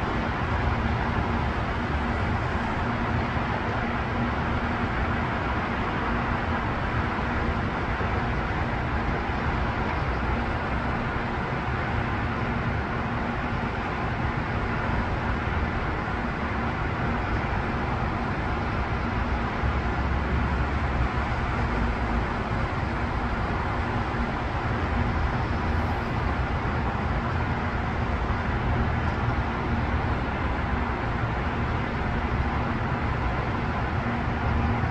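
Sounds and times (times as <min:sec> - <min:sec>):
expressway traffic rush: 0:00.0 - 0:34.9.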